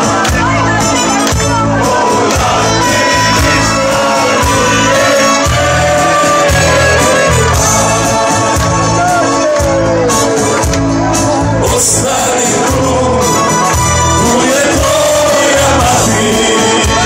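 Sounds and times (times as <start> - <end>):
live band music with singer: 0.0 - 17.0
pulsing bass beat: 0.0 - 17.0.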